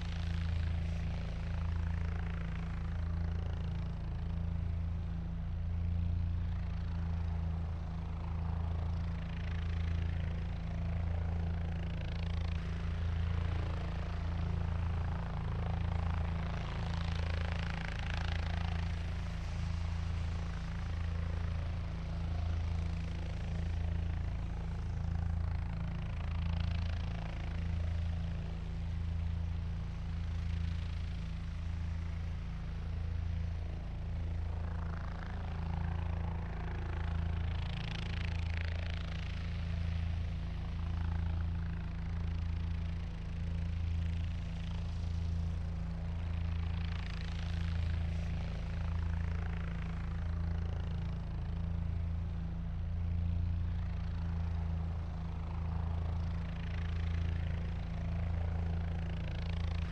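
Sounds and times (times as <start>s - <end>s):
helicopter rotor beat: 0.0s - 59.9s.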